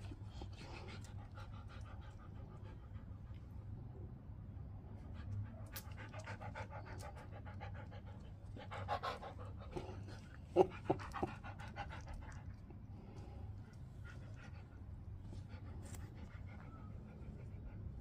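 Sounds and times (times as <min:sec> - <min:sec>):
dog panting: 0:00.0 - 0:03.6, 0:05.0 - 0:18.0.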